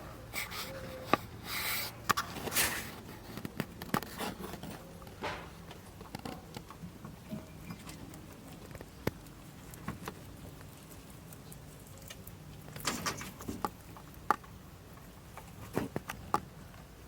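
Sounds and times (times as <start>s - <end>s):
rabbits chewing food: 0.0s - 17.0s.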